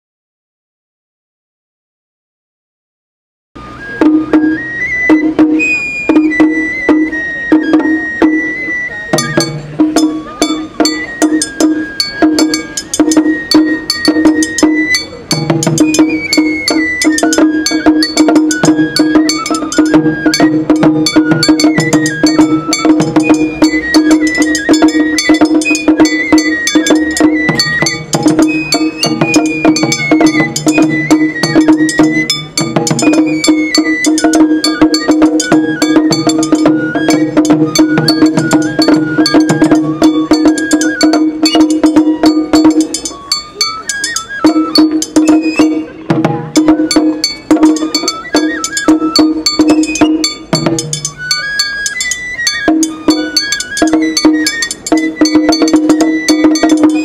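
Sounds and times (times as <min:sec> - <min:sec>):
bamboo flute melody: 0:03.6 - 0:57.0
drums: 0:03.6 - 0:57.0.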